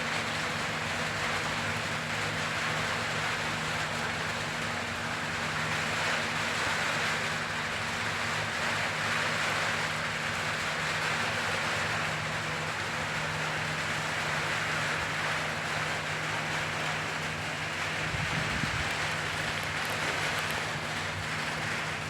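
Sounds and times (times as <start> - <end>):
low steady hum: 0.0 - 22.0
steady rain falling: 0.0 - 22.0.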